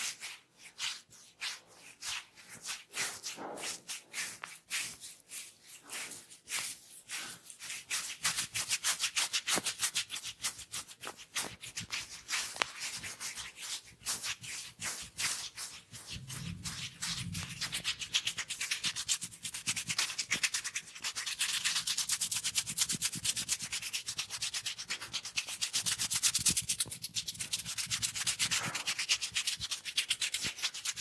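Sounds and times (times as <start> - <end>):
scratchy scalp rubbing strokes: 0.0 - 31.0.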